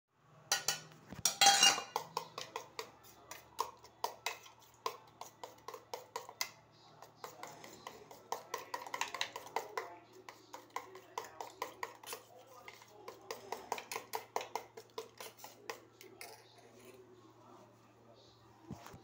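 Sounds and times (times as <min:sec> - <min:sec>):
metal spoon clinking in steel bowl: 0:00.5 - 0:06.5, 0:07.2 - 0:16.9.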